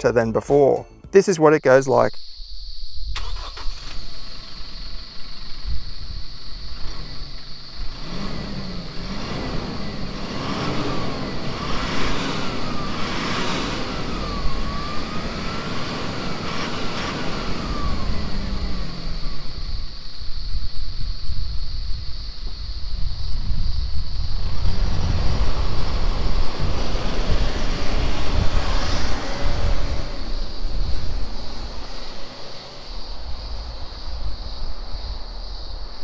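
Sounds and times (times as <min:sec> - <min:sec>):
diesel engine accelerating: 0:03.2 - 0:21.0, 0:23.0 - 0:36.0.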